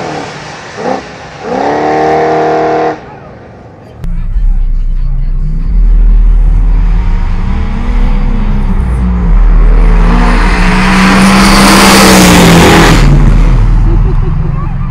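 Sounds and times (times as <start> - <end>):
drag race engines at full throttle: 0.0 - 14.9.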